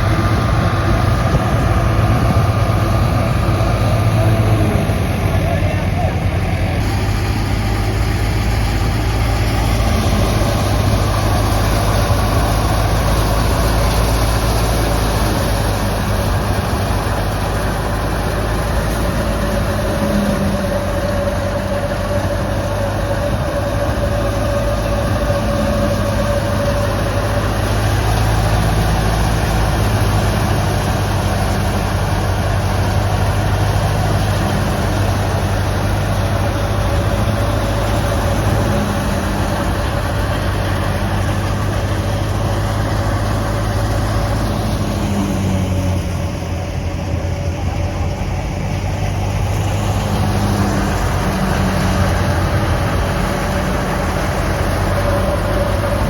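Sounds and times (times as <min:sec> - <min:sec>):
thresher machinery running: 0:00.0 - 0:56.0.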